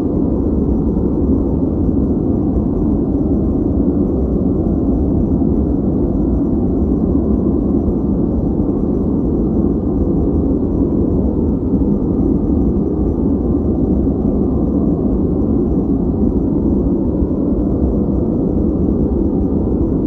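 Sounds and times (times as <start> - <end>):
deep muffled white noise: 0.0 - 20.0.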